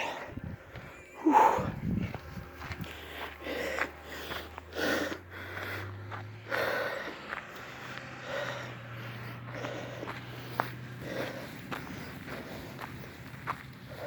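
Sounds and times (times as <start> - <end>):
person breathing hard: 0.0 - 14.0
steady low hum: 0.0 - 14.0.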